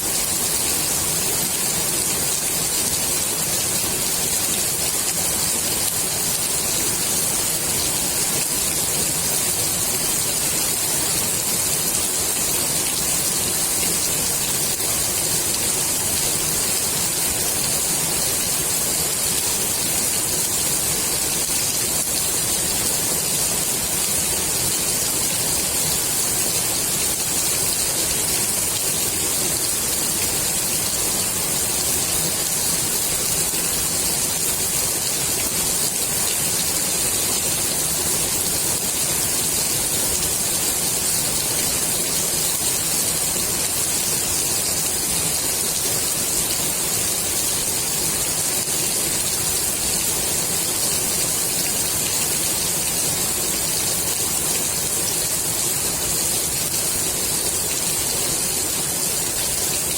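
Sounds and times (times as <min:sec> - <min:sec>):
rain falling on pool water: 0:00.0 - 0:59.9.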